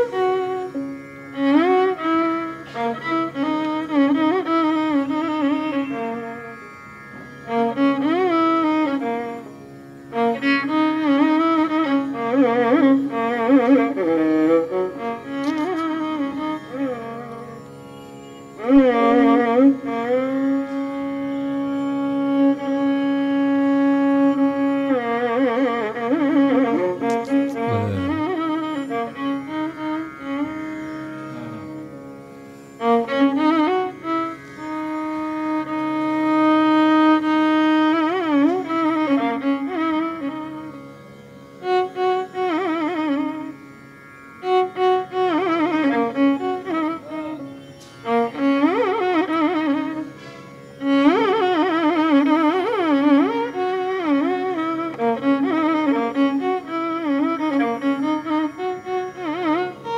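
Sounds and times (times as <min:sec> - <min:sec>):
indian classical instrumental melody: 0:00.0 - 0:59.9.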